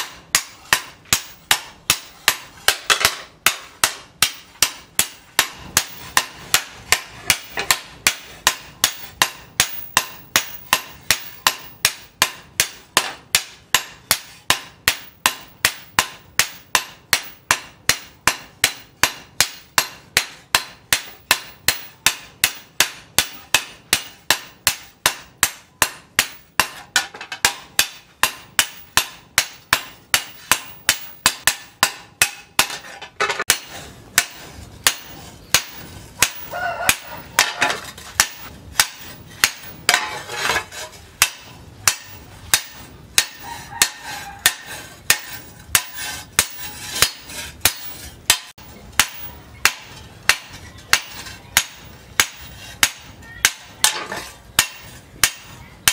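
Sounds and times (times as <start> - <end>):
hammer striking steel on anvil: 0.0 - 55.9.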